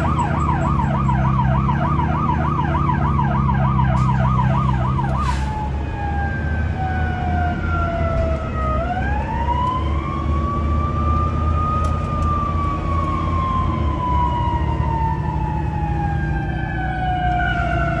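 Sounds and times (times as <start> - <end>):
fire engine siren: 0.0 - 18.0
truck engine low rumble: 0.0 - 18.0.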